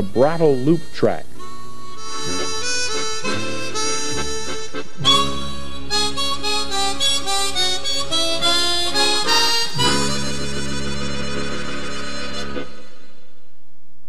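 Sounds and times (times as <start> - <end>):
instrumental background music: 0.0 - 13.4.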